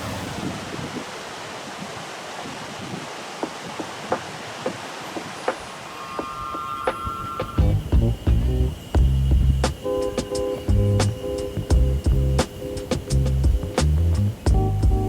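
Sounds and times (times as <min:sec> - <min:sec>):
mountain river rushing: 0:00.0 - 0:15.0.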